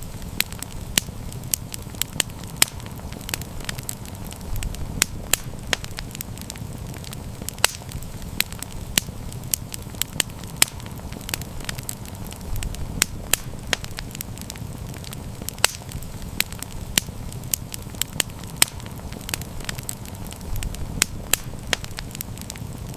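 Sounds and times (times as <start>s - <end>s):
low rumble of burning: 0.0s - 22.9s
wood fire crackling and popping: 0.0s - 22.9s.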